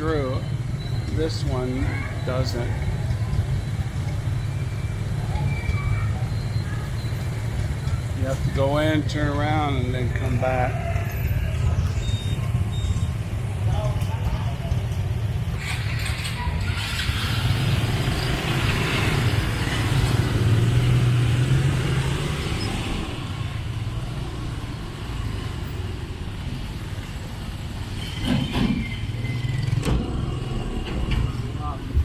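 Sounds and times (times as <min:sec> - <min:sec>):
vehicle engines humming: 0:00.0 - 0:32.0.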